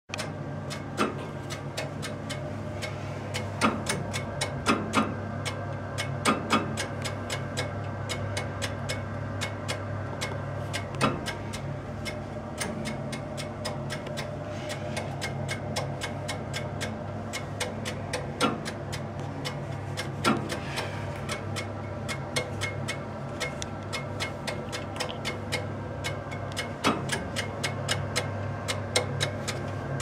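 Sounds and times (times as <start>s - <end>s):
heater humming: 0.1s - 30.0s.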